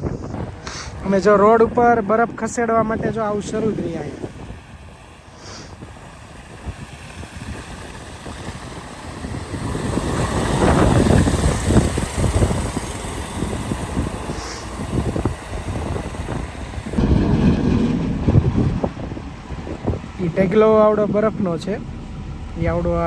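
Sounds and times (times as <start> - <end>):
gusty wind: 0.0 - 23.0
snow plow engine running: 0.0 - 23.0.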